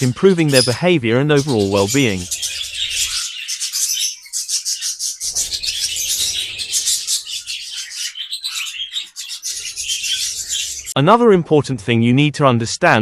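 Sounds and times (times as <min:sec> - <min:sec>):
budgies chattering: 0:00.0 - 0:11.0.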